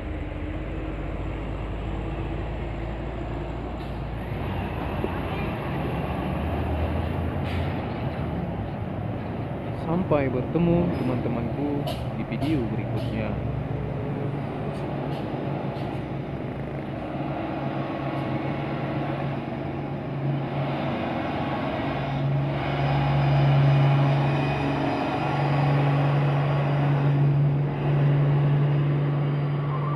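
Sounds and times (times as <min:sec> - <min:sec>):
diesel trucks passing: 0:00.0 - 0:29.9.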